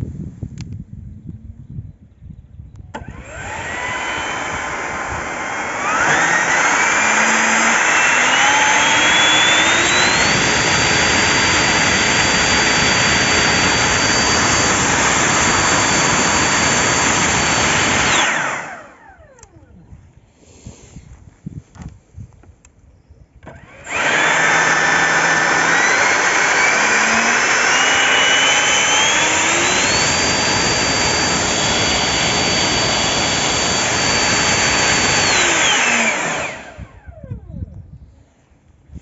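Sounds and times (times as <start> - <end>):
electric ducted fan whine: 0.0 - 20.9, 23.3 - 38.3.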